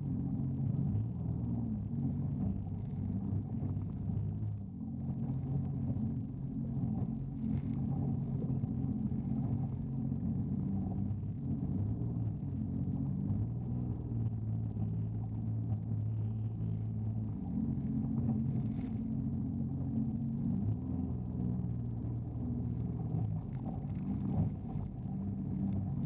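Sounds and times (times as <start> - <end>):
jet ski engine drone: 0.0 - 26.0.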